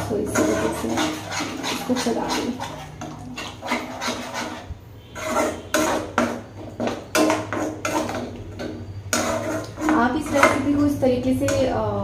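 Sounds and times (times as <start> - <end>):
metal spatula scraping a pan: 0.0 - 11.7.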